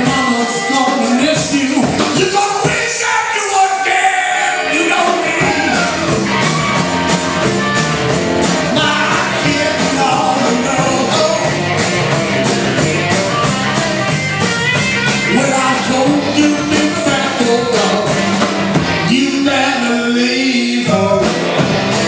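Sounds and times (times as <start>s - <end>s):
drum and cymbal hits: 0.0s - 3.5s, 4.8s - 22.0s
rock band playing: 0.0s - 22.0s.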